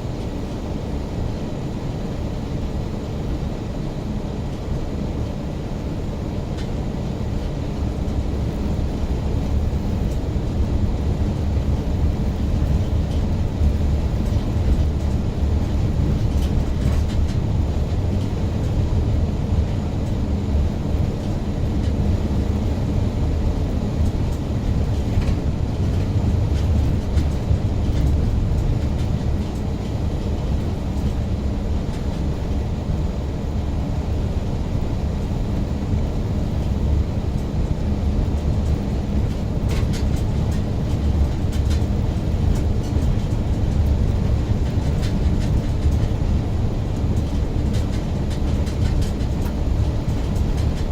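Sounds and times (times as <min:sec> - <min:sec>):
car engine and tyre rumble: 0:00.0 - 0:50.9.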